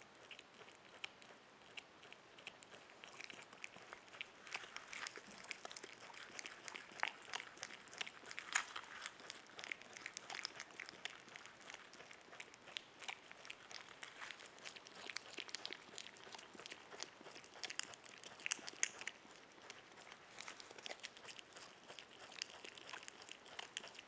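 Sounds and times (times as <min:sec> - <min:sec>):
animal chewing and crunching: 0:00.0 - 0:24.0.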